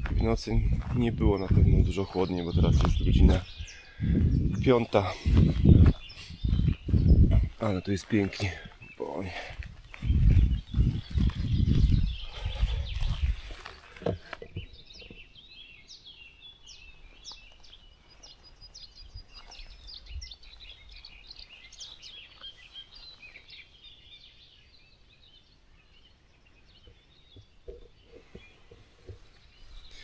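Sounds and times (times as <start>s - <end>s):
songbirds chirping and trilling: 0.0s - 30.0s.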